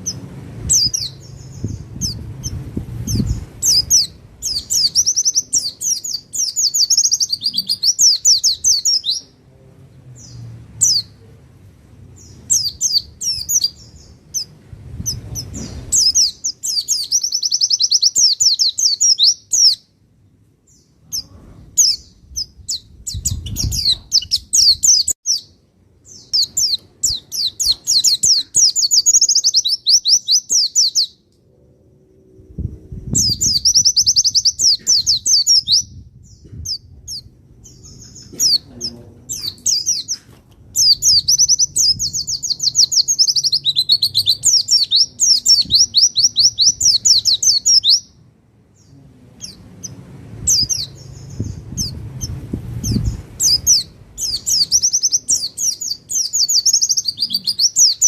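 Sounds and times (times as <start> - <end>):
bird twittering song: 0.0 - 9.4, 10.1 - 11.2, 12.1 - 19.9, 20.6 - 31.3, 32.4 - 58.0.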